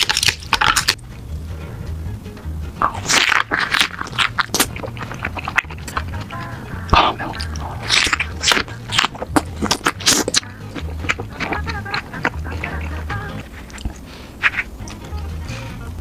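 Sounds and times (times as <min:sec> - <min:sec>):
crisp bites and chewing: 0:00.0 - 0:01.0, 0:02.8 - 0:15.0
background music with low beat: 0:00.0 - 0:16.0.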